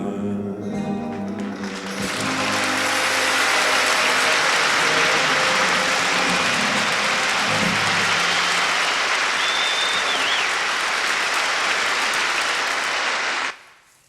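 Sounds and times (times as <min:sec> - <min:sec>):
audience applauding: 0:01.1 - 0:13.6.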